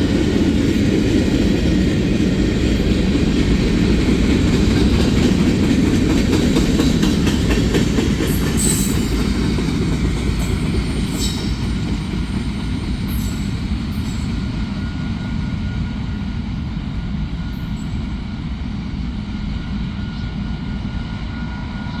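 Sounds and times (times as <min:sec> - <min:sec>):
freight train rumble and wheel clatter: 0:00.0 - 0:22.0.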